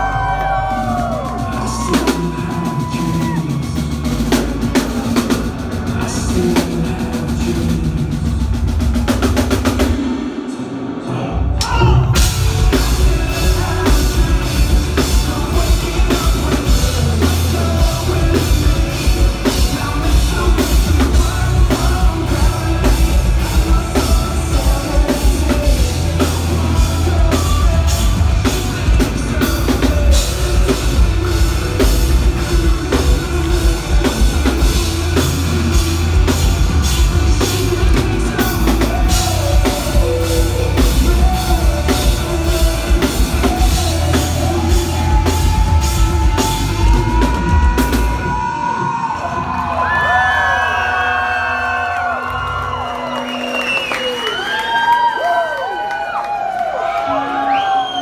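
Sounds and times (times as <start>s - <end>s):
drum kit beat: 0.0s - 10.7s, 11.6s - 48.6s
heavy bass: 0.0s - 55.5s
rock band playing live: 0.0s - 58.0s.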